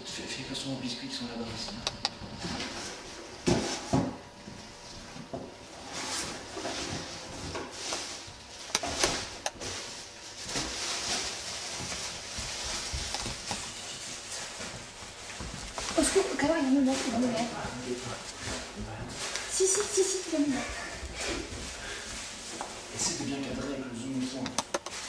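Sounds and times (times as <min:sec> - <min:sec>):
rustling and shuffling: 0:01.4 - 0:25.0.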